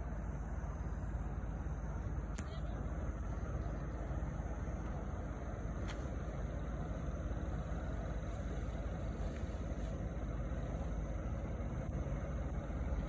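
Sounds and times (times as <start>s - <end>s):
two-stroke engine running: 0.0s - 13.0s.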